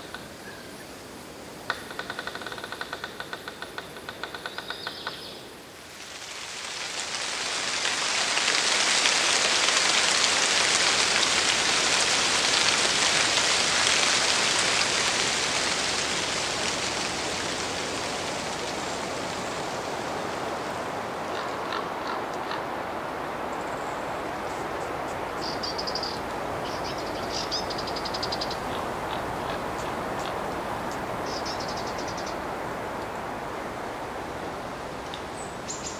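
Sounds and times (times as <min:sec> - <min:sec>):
forest rushing noise: 0:05.4 - 0:35.9.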